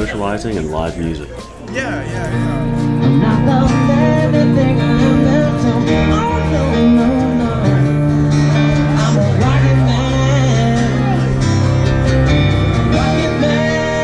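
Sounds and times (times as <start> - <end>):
bass: 0.0 - 14.0
keyboard: 0.0 - 14.0
strummed acoustic guitar: 0.0 - 14.0
man singing: 1.6 - 14.0.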